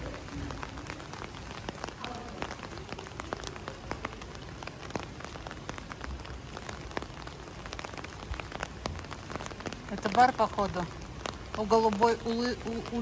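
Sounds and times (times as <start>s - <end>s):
raindrop taps: 0.0s - 13.0s
steady rain: 0.0s - 13.0s.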